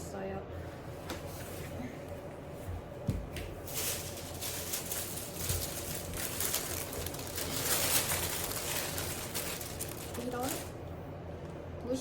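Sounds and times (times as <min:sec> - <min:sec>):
rustling and handling noises: 0:00.7 - 0:11.0.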